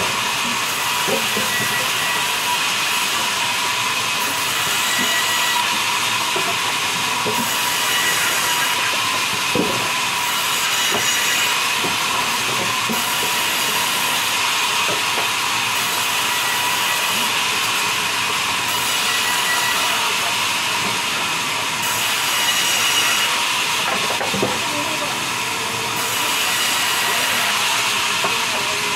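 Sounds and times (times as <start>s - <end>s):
band saw cutting logs: 0.0s - 28.9s.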